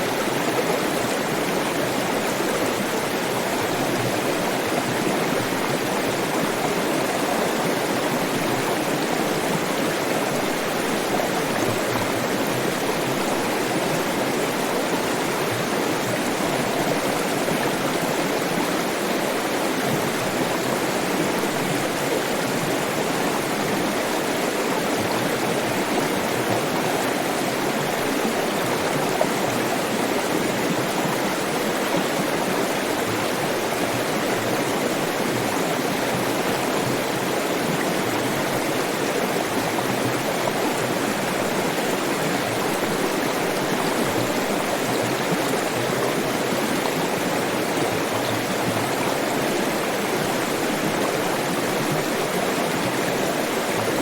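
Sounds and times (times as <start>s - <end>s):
stream rushing: 0.0s - 54.0s.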